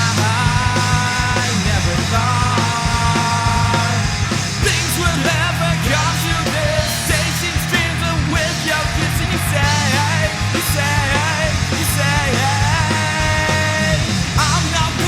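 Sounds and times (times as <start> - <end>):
person singing: 0.0 - 15.0
rock band playing: 0.0 - 15.0.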